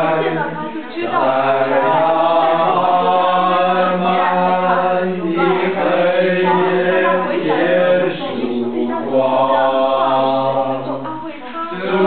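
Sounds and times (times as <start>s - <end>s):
voices singing chant-like notes: 0.0s - 12.0s.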